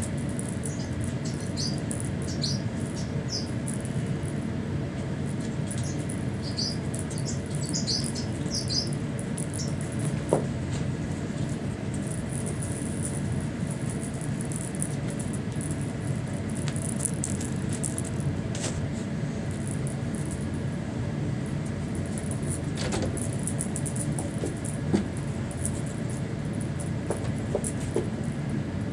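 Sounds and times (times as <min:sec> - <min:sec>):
cat toy jingling and rattling: 0:00.0 - 0:04.5, 0:05.2 - 0:18.4, 0:19.4 - 0:20.7, 0:21.8 - 0:28.4
low background hum: 0:00.0 - 0:28.9.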